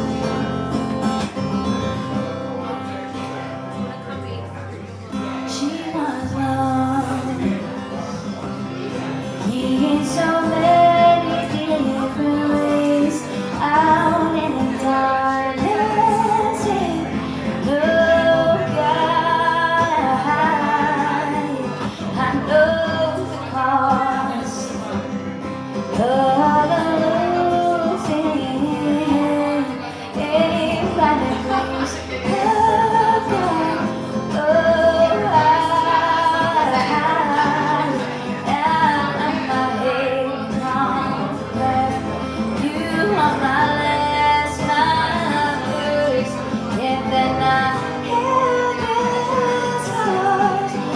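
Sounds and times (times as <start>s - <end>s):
guitar accompaniment: 0.0s - 50.9s
woman singing: 5.4s - 50.9s.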